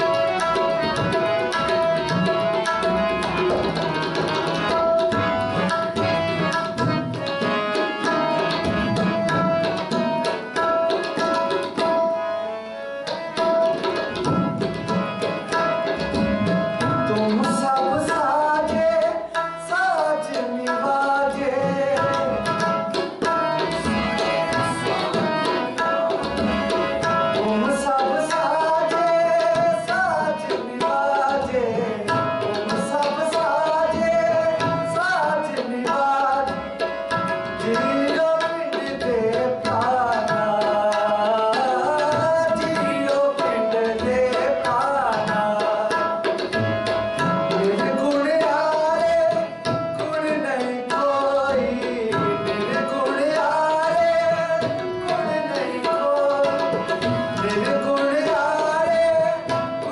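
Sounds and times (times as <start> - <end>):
harmonium: 0.0 - 59.9
man singing devotional melody: 0.0 - 59.9
tabla drumming: 0.0 - 59.9.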